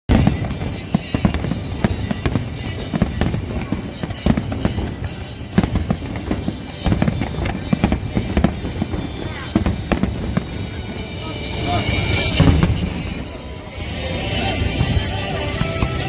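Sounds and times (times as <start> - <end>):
fireworks bangs and crackles: 0.1 - 16.0
loud fireworks booms: 0.1 - 16.0.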